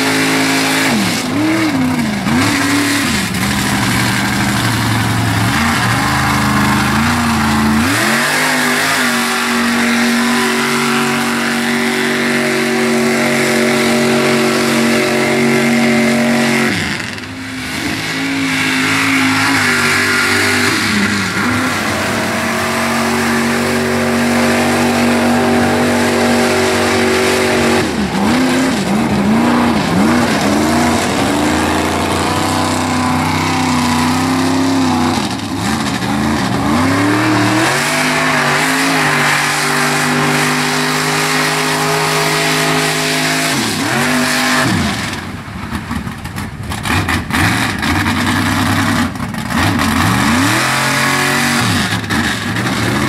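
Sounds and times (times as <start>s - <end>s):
tires churning through mud: 0.0s - 53.0s
truck engine revving high: 0.0s - 53.0s.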